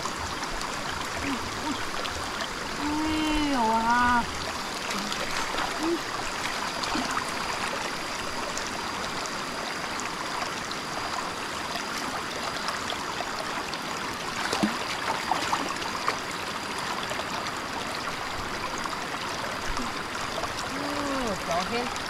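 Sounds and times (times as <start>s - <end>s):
shallow stream running: 0.0s - 22.0s
small water splashes: 0.0s - 22.0s.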